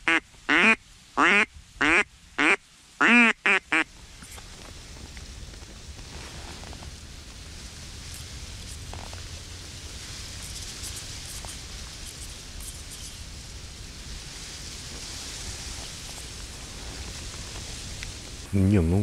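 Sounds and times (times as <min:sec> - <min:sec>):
rustling outdoor hiss: 0:00.0 - 0:19.0.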